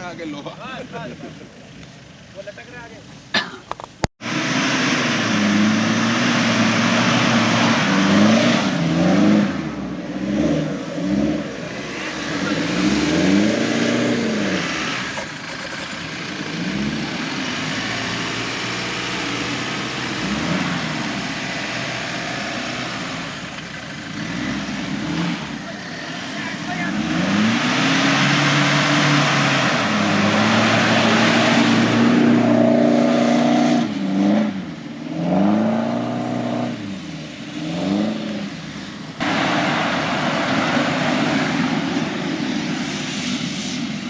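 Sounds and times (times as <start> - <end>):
jeep engine revving: 4.2 - 44.0.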